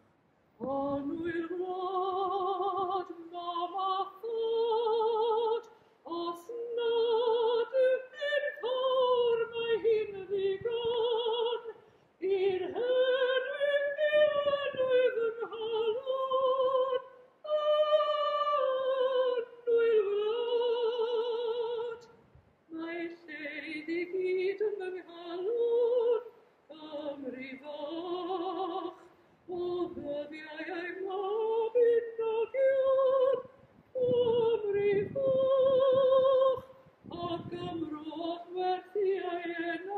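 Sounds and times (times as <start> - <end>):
woman singing operatically: 0.6 - 22.1, 22.7 - 39.9.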